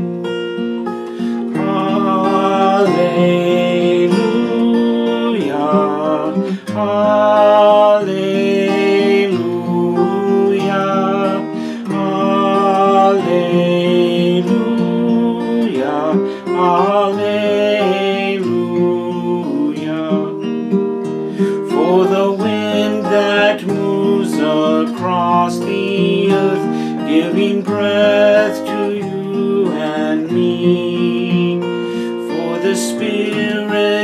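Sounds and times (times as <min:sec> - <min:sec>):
acoustic guitar strumming: 0:00.0 - 0:34.0
man singing slow song: 0:01.2 - 0:34.0.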